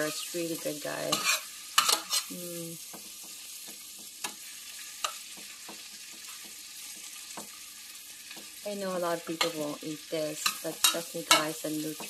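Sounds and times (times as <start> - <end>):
metal spoon scraping pan: 0.0 - 8.6, 9.3 - 12.0
food sizzling in hot oil: 0.0 - 12.0.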